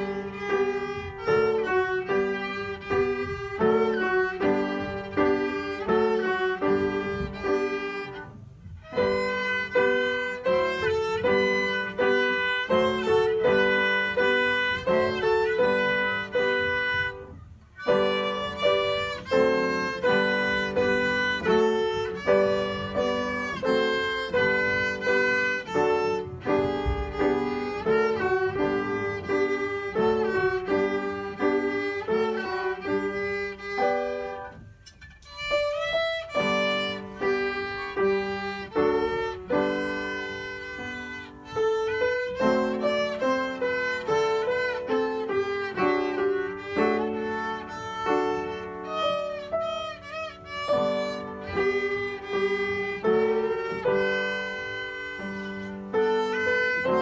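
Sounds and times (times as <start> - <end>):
piano accompaniment: 0.0 - 57.0
violin melody: 0.0 - 57.0.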